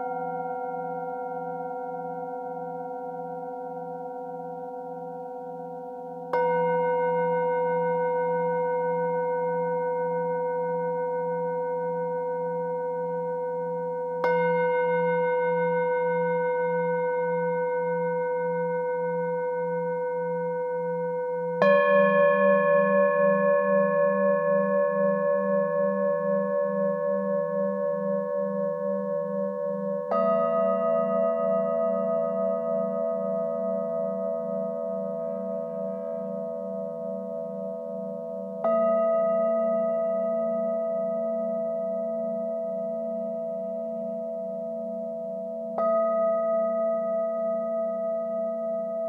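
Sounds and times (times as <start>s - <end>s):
higher-pitched singing bowl: 0.0s - 49.0s
singing bowl struck with mallet: 0.0s - 49.0s.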